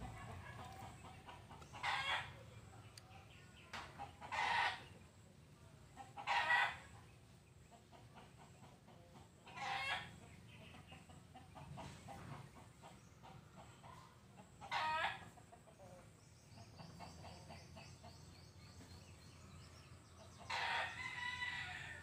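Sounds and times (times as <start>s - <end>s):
chickens calling: 0.0s - 22.0s.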